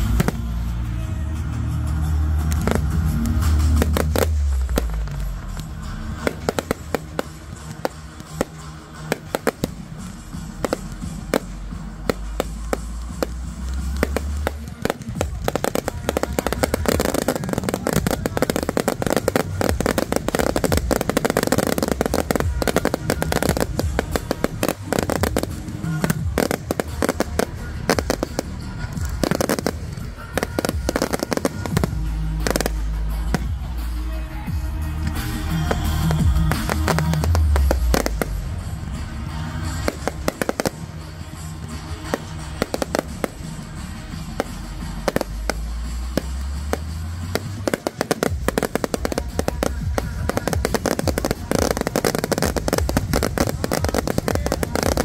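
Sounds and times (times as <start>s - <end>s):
fireworks bangs and crackles: 0.0s - 55.0s
music with bass line: 0.0s - 55.0s.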